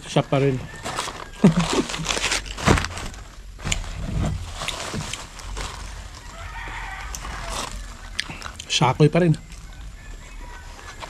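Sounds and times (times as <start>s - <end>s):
paper bag rustling: 0.0s - 8.6s, 9.6s - 11.0s.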